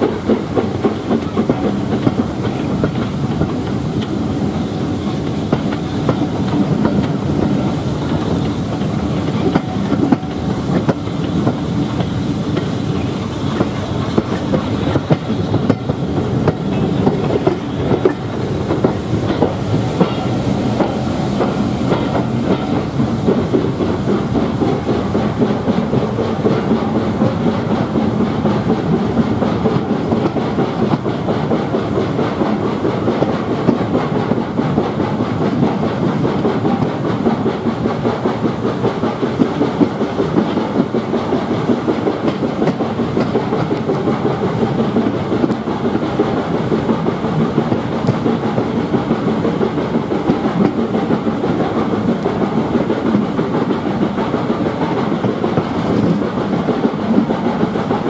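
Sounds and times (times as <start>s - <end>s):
steam locomotive exhaust beat: 0.0s - 58.0s
train wheels clickety-clack: 0.0s - 58.0s.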